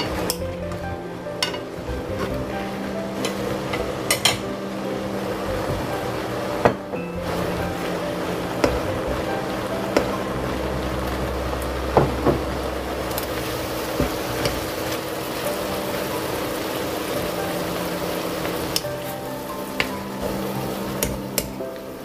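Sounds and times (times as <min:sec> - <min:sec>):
wooden spatula stirring: 0:00.0 - 0:22.0
vegetables sizzling in a wok: 0:01.4 - 0:22.0.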